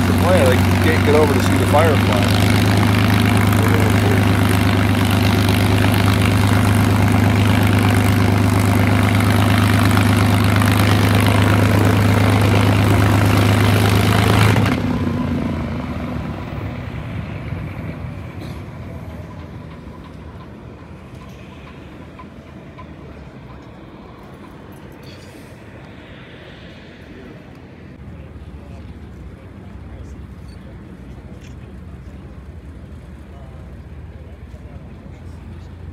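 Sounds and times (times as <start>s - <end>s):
aircraft engine running: 0.0s - 35.9s.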